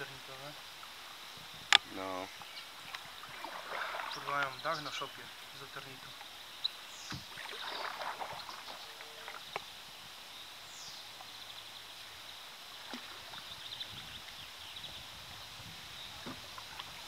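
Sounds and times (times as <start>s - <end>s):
river water splashing: 0.0s - 17.0s.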